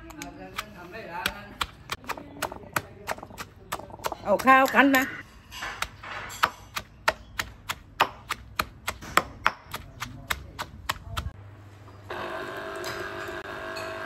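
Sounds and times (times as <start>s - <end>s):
stone pestle pounding in mortar: 0.1s - 11.4s.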